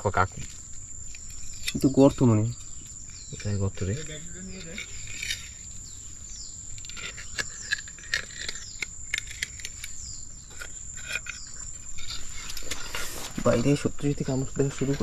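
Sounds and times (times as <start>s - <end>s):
sharp clicks and rustles: 0.0s - 6.0s, 6.7s - 15.0s
high-pitched insect drone: 0.0s - 15.0s.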